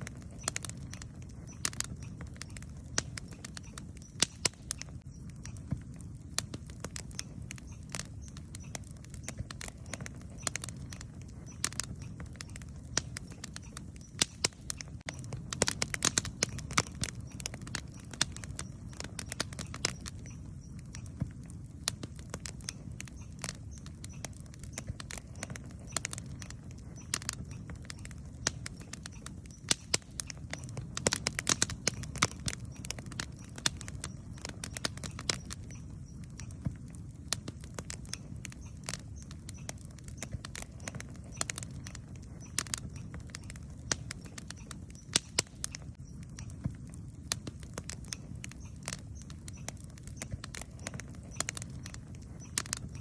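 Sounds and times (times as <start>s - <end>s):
campfire flames rumbling: 0.0s - 53.0s
fire crackling and popping: 0.0s - 53.0s.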